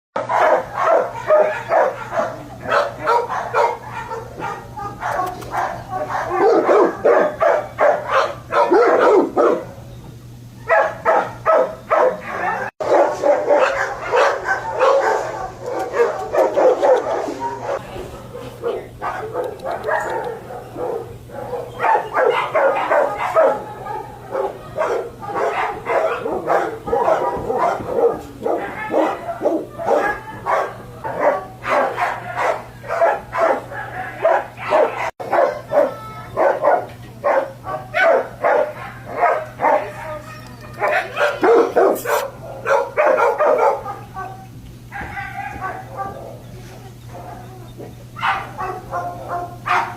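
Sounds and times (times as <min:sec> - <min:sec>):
dogs barking and yelping: 0:00.2 - 0:09.9, 0:10.5 - 0:49.9.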